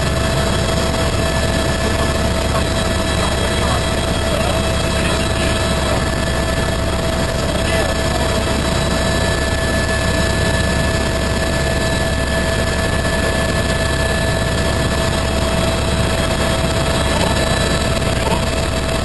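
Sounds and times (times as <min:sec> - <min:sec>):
constant engine whine: 0:00.0 - 0:19.0
helicopter engine and rotor drone: 0:00.0 - 0:19.0.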